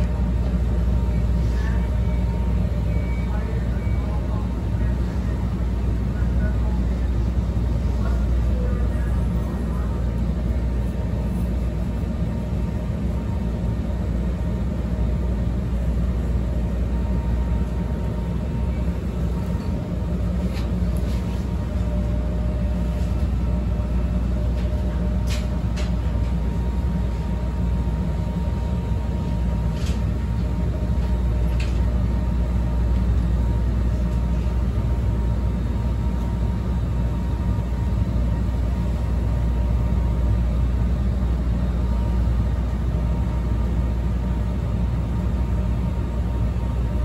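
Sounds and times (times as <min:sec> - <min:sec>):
train car equipment humming: 0:00.0 - 0:47.0.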